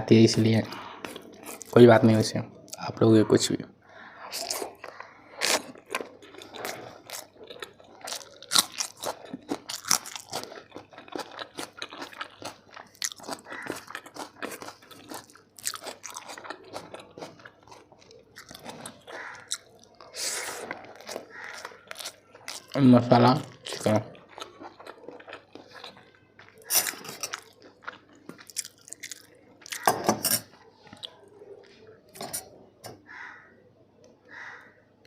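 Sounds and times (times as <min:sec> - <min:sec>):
chewing and crunching food: 0:00.2 - 0:02.9, 0:03.9 - 0:35.0.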